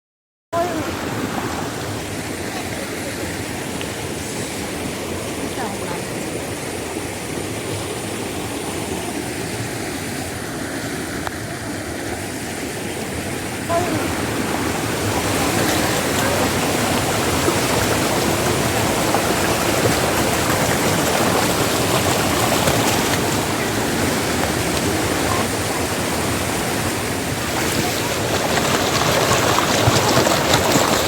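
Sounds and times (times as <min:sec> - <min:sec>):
rushing water: 0:00.6 - 0:31.0.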